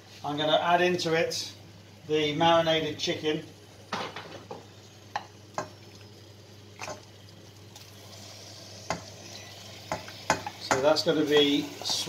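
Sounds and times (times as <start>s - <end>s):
faint sizzle in pan: 0.0s - 12.0s.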